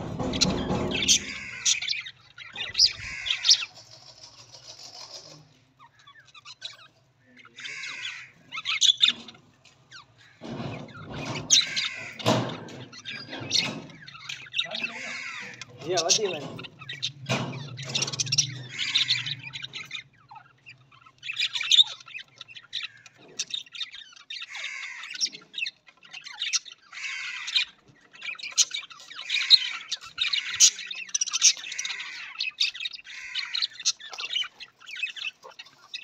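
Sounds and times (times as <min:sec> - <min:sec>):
budgerigars chirping and squawking: 0:00.0 - 0:36.0.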